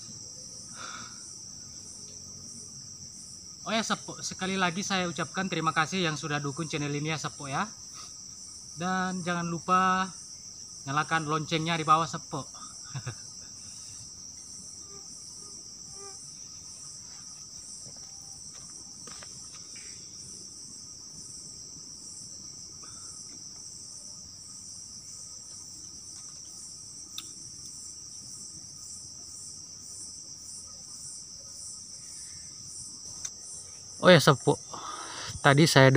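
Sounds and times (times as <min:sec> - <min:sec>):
crickets and night insects chirping: 0:00.0 - 0:35.9
fast pulsing insect trill: 0:00.0 - 0:35.9.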